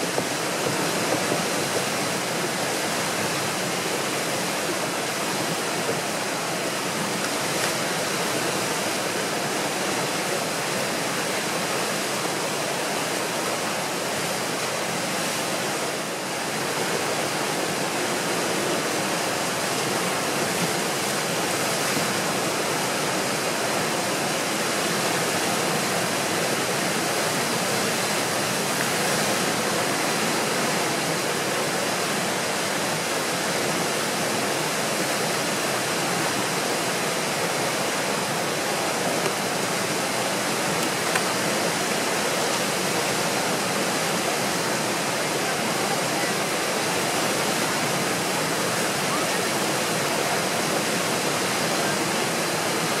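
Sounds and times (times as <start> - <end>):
whitewater rushing: 0.0 - 53.0.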